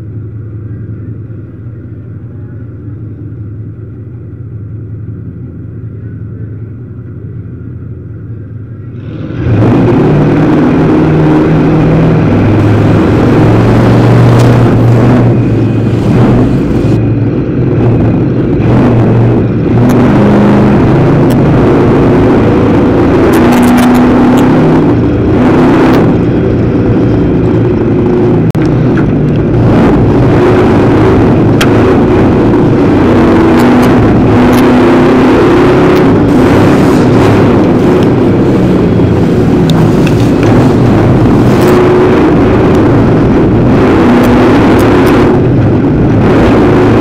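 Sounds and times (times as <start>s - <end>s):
race car engine revving: 8.8s - 47.0s.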